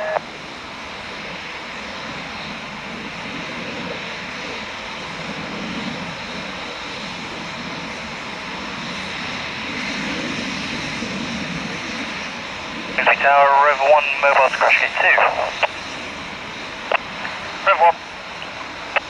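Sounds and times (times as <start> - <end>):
jet engine rushing: 0.0 - 19.0.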